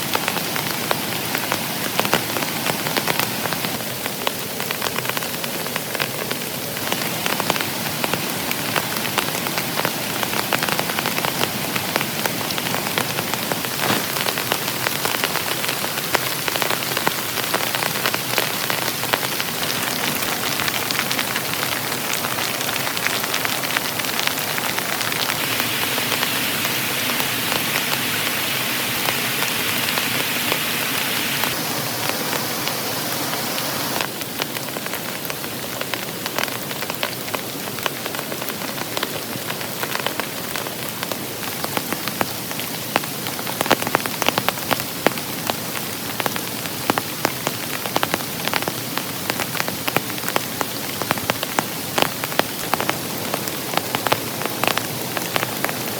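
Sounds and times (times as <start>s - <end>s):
sharp ticks of raindrops: 0.0s - 26.4s, 33.8s - 55.9s
heavy rain falling: 0.0s - 55.9s.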